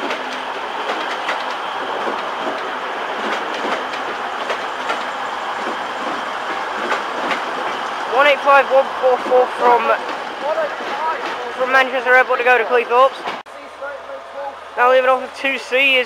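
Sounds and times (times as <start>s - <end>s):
train rolling: 0.0s - 16.0s
wheels clattering over rail joints: 0.0s - 16.0s.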